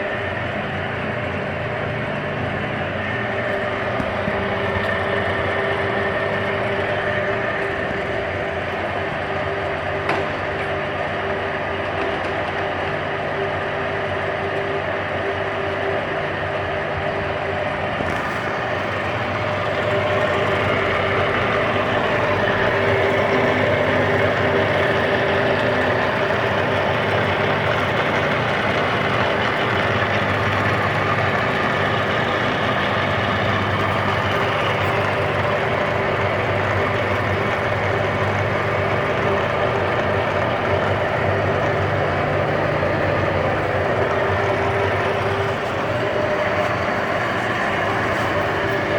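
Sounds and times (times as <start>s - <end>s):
lathe motor humming: 0.0s - 48.9s.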